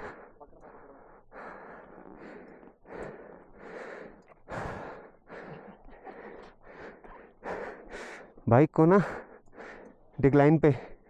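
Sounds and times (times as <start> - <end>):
person breathing hard: 0.0 - 8.4, 9.0 - 10.1.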